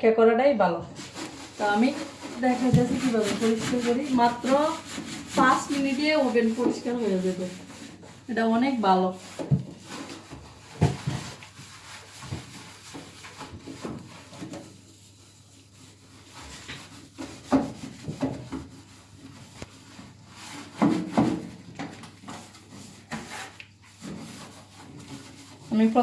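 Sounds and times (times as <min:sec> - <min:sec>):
sponge scrubbing: 0:00.9 - 0:26.0.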